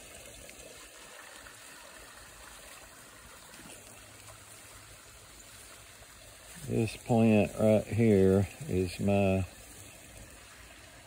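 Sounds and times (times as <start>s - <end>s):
water trickling over waterfall: 0.0s - 11.0s.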